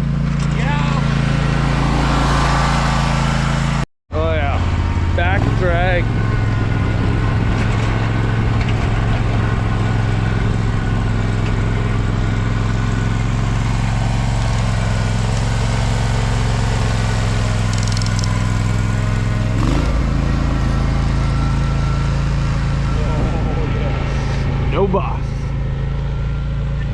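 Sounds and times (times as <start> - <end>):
mower engine running under load: 0.0 - 26.9.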